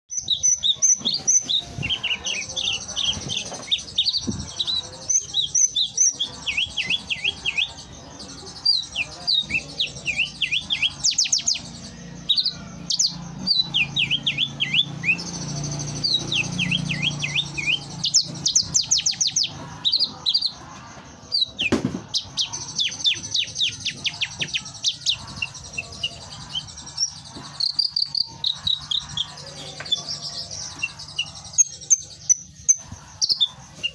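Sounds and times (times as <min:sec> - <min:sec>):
faint birds: 0:00.1 - 0:33.9
lark singing rapid chirps: 0:00.1 - 0:33.9.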